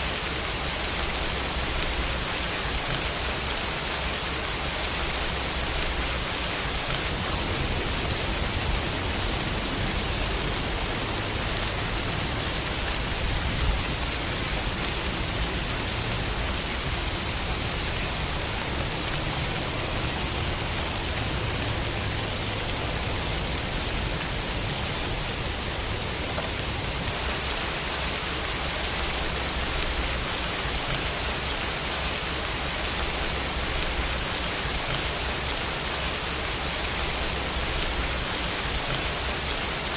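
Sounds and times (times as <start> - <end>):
rain hissing on surfaces: 0.0 - 39.9.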